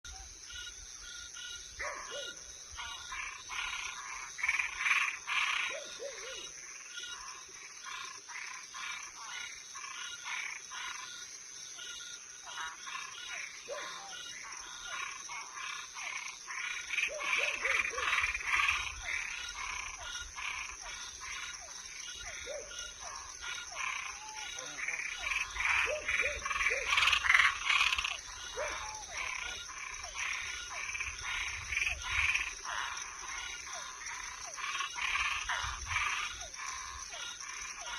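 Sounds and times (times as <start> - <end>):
frogs calling: 0.1 - 37.9
high insect drone: 0.1 - 37.9.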